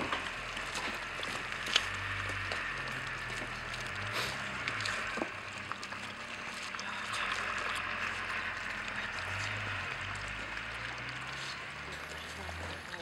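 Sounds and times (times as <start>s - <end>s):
puppies lapping and chewing: 0.0s - 13.0s.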